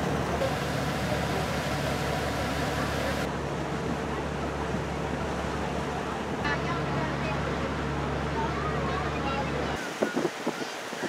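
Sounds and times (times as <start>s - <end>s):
ferry engine humming: 0.0s - 9.8s
water wash rushing: 0.0s - 11.0s.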